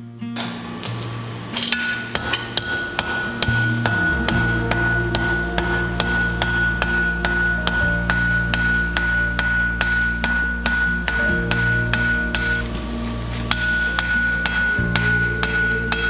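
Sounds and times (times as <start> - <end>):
hammer striking anvil: 1.6 - 16.0.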